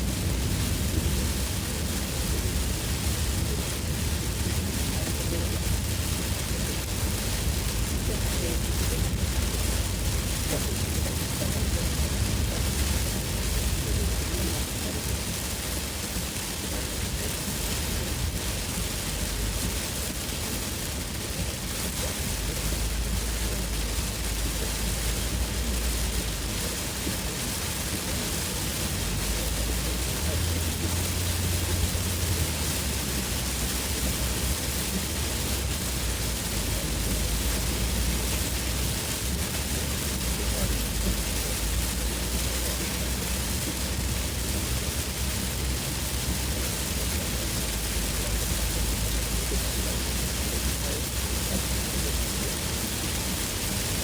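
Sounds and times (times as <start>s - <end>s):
car engine and tyres rumble: 0.0s - 54.0s
heavy rain on a car: 0.0s - 54.0s.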